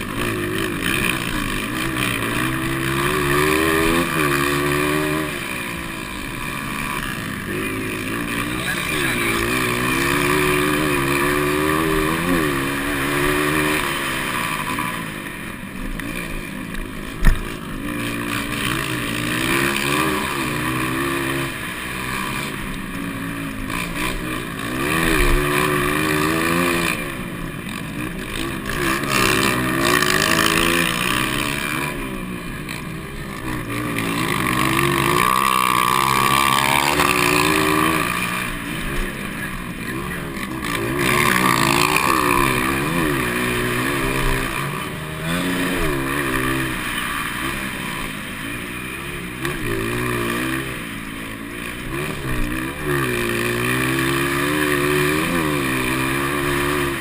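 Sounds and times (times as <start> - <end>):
motocross bikes revving: 0.0 - 57.0.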